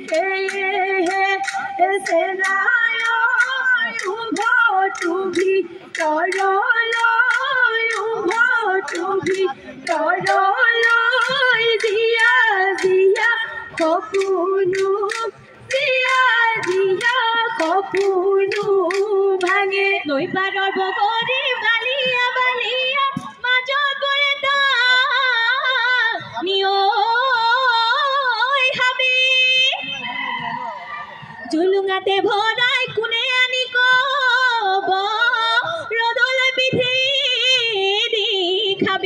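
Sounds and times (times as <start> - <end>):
women singing with vibrato: 0.0 - 30.2, 31.2 - 39.0.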